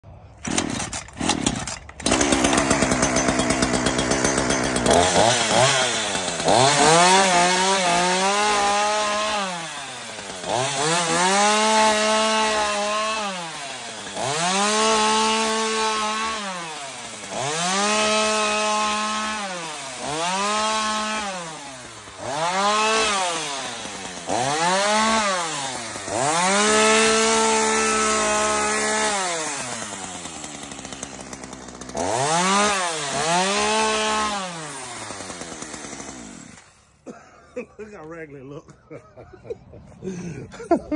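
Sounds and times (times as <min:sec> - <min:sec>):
chainsaw cutting branches: 0:00.2 - 0:37.2.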